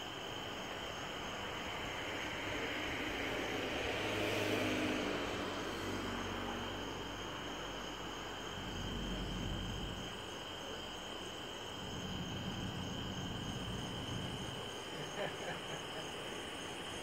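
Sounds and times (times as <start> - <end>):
crickets trilling: 0.0 - 17.0
car passing rumble: 1.8 - 16.5.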